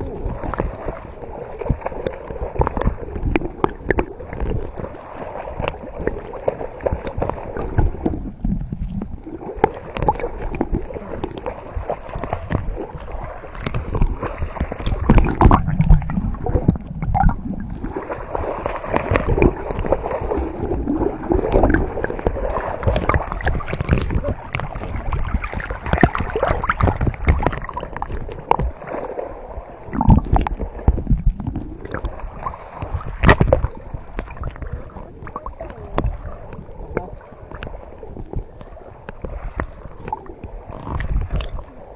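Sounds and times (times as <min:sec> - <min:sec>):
small splashes and knocks: 0:00.0 - 0:29.3, 0:29.9 - 0:41.9
muffled water sloshing and gurgling: 0:00.0 - 0:41.9.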